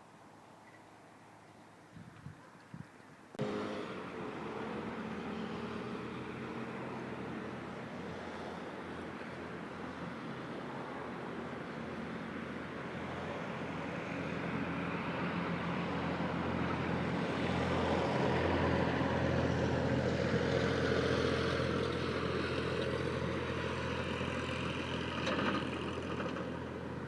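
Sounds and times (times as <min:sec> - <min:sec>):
motor vehicle passing: 0:03.4 - 0:27.0.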